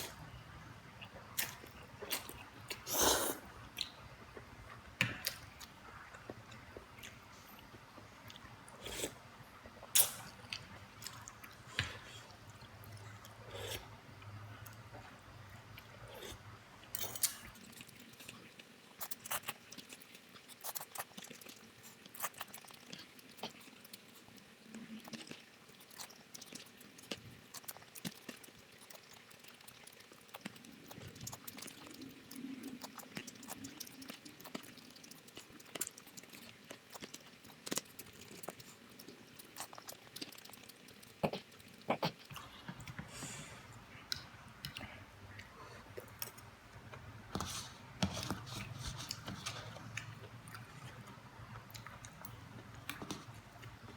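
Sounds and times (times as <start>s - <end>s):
chewing noodles and rice: 1.0s - 53.9s.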